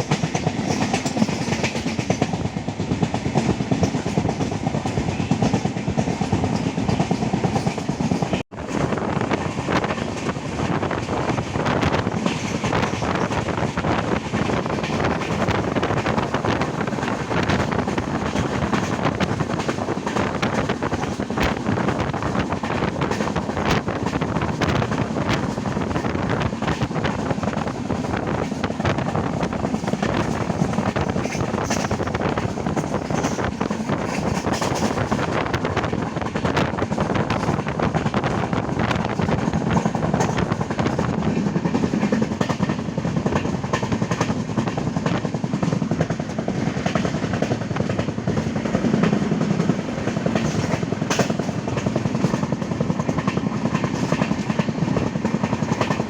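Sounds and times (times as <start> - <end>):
train rumbling: 0.0 - 56.0
wheels clacking over rail joints: 0.0 - 56.0.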